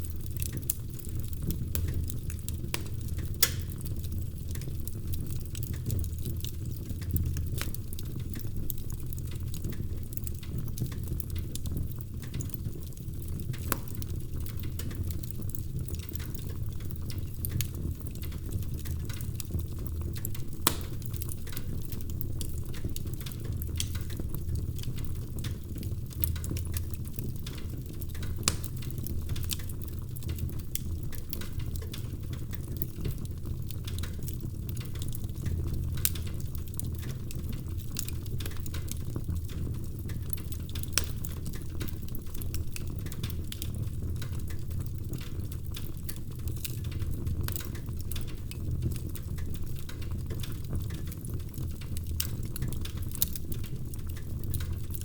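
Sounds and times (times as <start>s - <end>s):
fire crackling and popping: 0.0s - 55.0s
flames rumbling: 0.0s - 55.0s.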